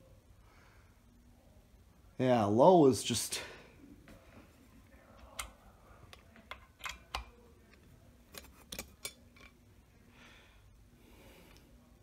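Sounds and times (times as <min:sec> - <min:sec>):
ceiling fan hum: 0:00.0 - 0:12.0.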